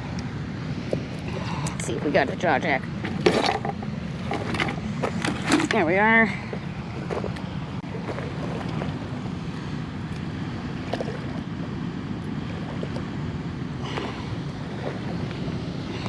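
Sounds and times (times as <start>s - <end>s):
floodwater flowing: 0.0s - 16.0s
wind: 0.0s - 16.0s.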